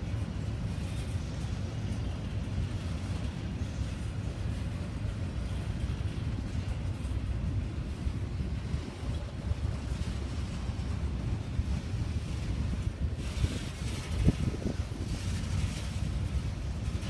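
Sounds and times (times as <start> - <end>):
freight train rolling on rails: 0.0 - 17.0.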